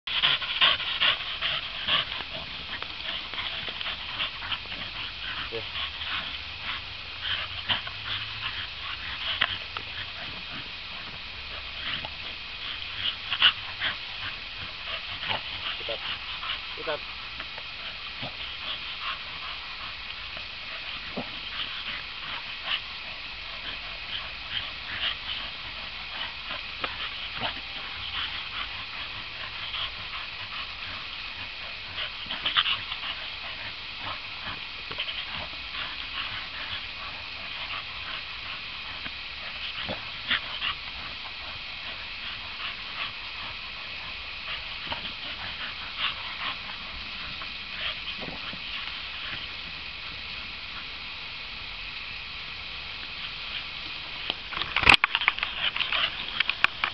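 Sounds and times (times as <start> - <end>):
steady hiss: 0.0 - 56.9.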